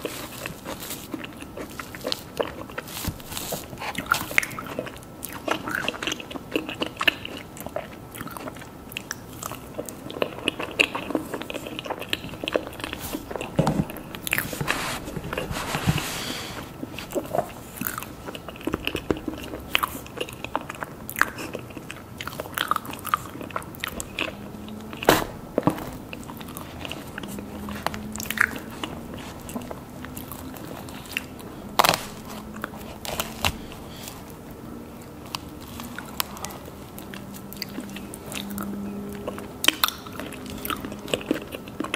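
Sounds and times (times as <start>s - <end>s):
person chewing cake: 0.0s - 41.9s.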